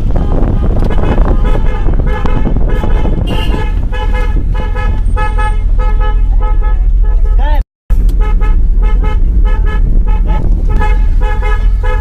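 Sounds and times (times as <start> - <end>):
low rumble of moving car: 0.0 - 12.0
musical car horn playing a tune: 0.0 - 12.0.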